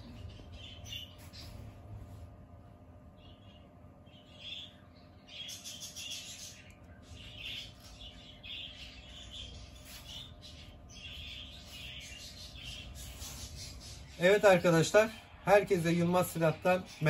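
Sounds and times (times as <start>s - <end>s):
small bird chirping: 0.0s - 2.0s, 3.1s - 16.1s.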